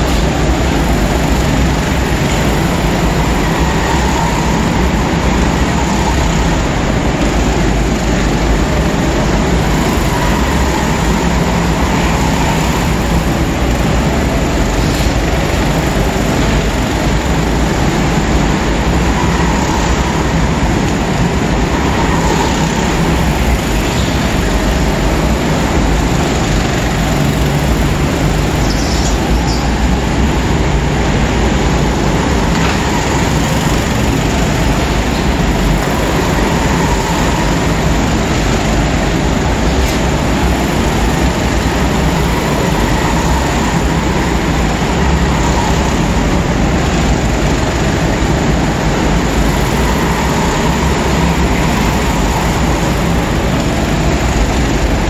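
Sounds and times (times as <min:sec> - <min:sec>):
go-karts droning: 0:00.0 - 0:55.0.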